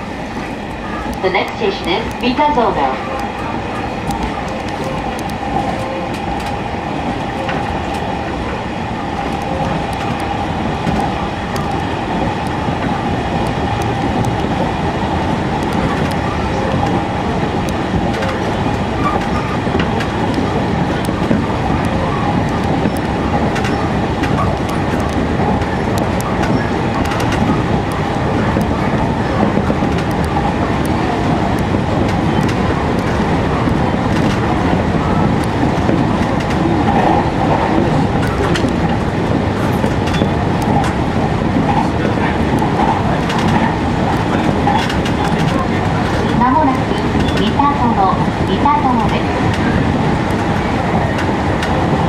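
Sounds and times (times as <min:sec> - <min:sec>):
train rolling noise: 0:00.0 - 0:52.0
faint rail clicks: 0:00.4 - 0:51.9.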